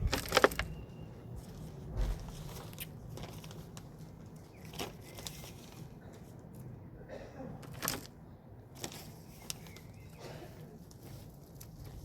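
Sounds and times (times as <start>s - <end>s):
compost rustling and crackling: 0.0s - 6.6s, 7.6s - 12.0s.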